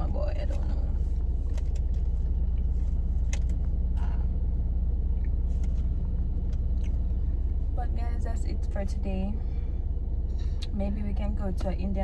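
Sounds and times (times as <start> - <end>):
car rumbling: 0.0 - 12.0.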